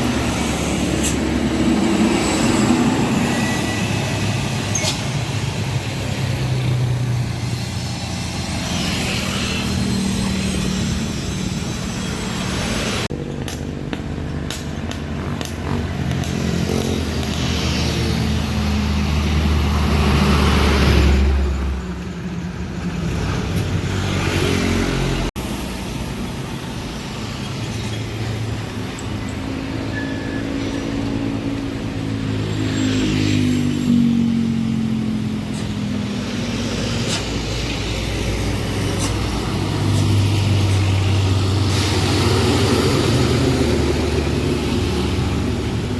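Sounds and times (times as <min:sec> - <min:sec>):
truck diesel engines labouring: 0:00.0 - 0:45.9.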